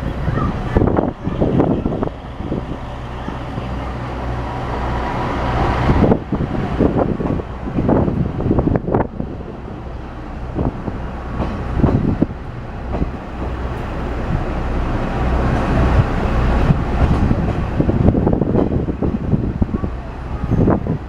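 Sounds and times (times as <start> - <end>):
wheels clacking over rail joints: 0.2 - 20.8.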